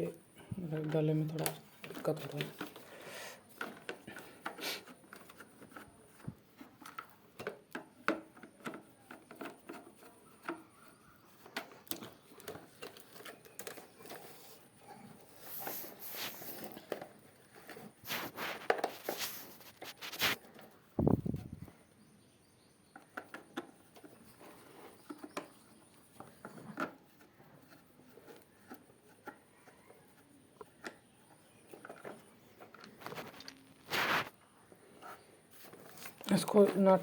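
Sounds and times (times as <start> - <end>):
fan parts clicking and scraping: 0.0 - 21.8, 22.8 - 37.0.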